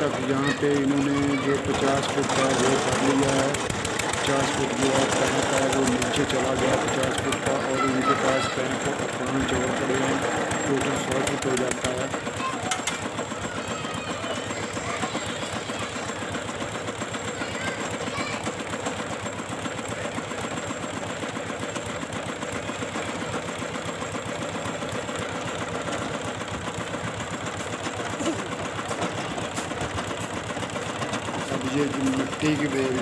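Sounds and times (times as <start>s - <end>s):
engine chugging: 0.0s - 33.0s.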